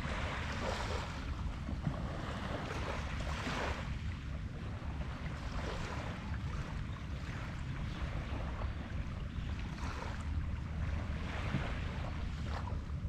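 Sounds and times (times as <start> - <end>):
small waves washing onto beach: 0.0 - 13.0
wind rumbling on microphone: 0.0 - 13.0.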